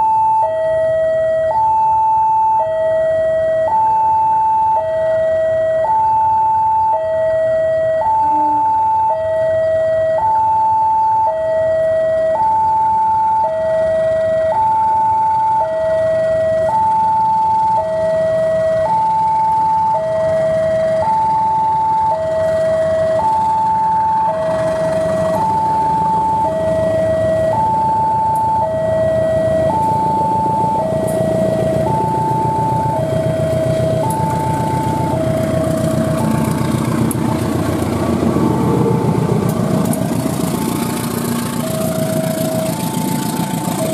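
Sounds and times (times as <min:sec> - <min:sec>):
level crossing two-tone alarm: 0:00.0 - 0:36.9, 0:41.3 - 0:43.9
diesel locomotive engine: 0:00.0 - 0:43.9.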